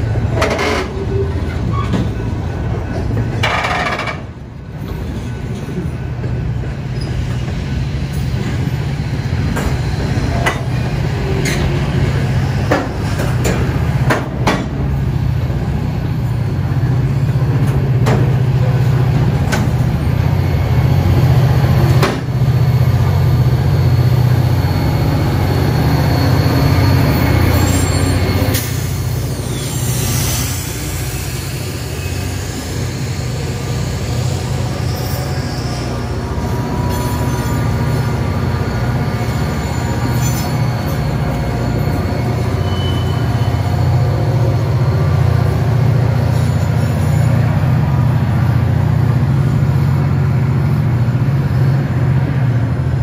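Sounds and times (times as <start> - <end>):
diesel locomotive drone: 0.0 - 53.0.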